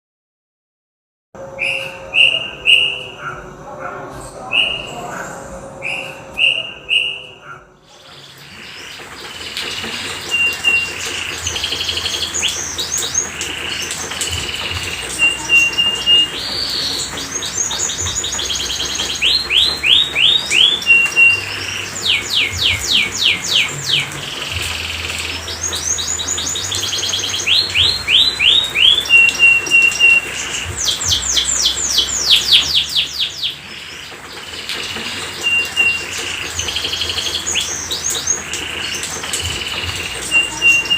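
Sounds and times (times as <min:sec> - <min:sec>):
canary singing: 0:01.4 - 0:03.6, 0:04.2 - 0:40.9.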